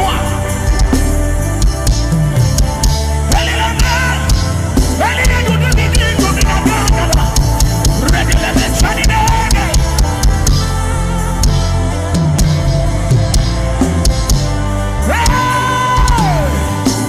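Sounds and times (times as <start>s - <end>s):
bending melodic line: 0.0s - 17.0s
steady bass: 0.0s - 17.0s.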